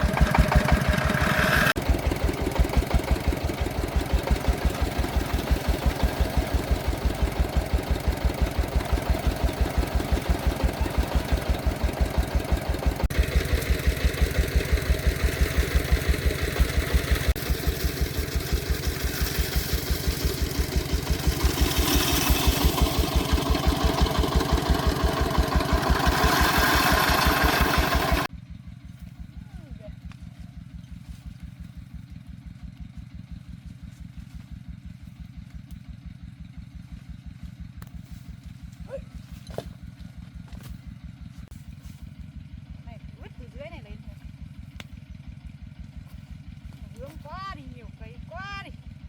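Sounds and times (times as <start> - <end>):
diesel engine chugging: 0.0 - 49.0.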